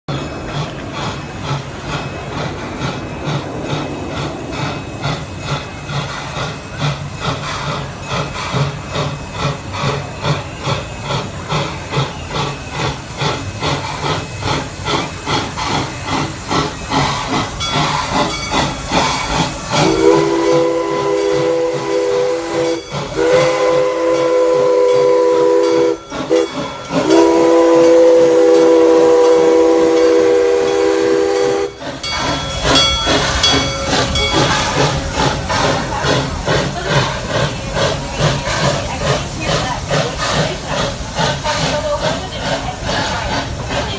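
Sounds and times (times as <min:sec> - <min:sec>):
steam locomotive chuffing: 0:00.1 - 0:43.9
chime steam whistle: 0:01.9 - 0:39.3.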